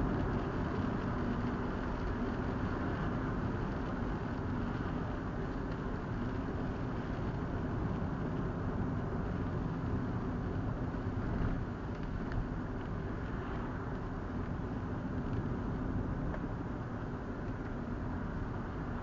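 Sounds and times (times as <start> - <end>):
car road noise: 0.0 - 19.0.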